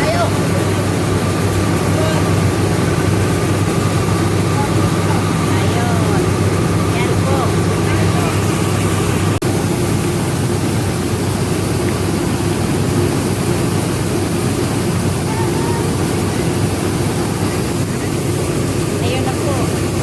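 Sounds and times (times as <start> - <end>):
rice milling machine droning: 0.0 - 20.0.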